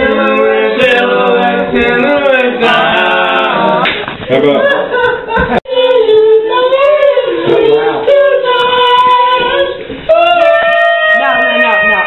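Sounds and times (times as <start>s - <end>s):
people singing unaccompanied: 0.0s - 12.0s.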